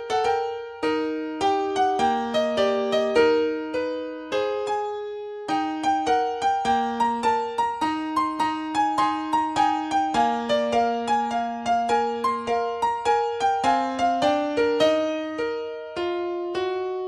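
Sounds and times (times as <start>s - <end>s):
solo piano tune: 0.0s - 17.0s.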